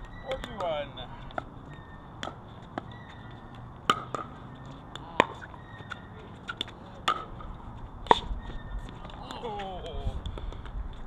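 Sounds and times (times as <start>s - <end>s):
ball bouncing clicks: 0.0s - 11.0s.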